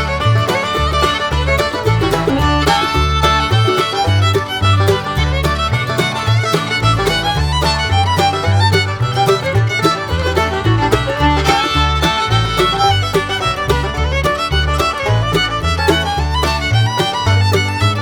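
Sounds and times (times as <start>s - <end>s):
bass line: 0.0s - 18.0s
lively fiddle music: 0.0s - 18.0s.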